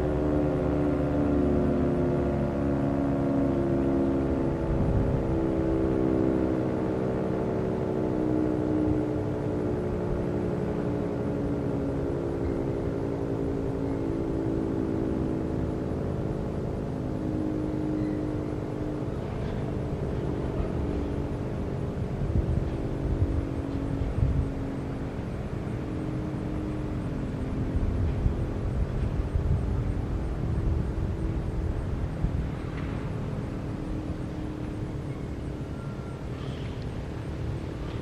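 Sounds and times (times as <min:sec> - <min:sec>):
siren winding down: 0:00.0 - 0:38.0.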